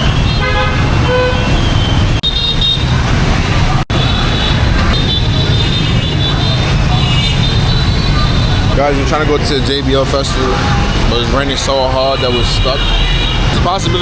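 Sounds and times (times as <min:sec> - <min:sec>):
car horns: 0:00.0 - 0:03.0, 0:03.9 - 0:09.3, 0:10.0 - 0:14.0
engines rumbling: 0:00.0 - 0:14.0.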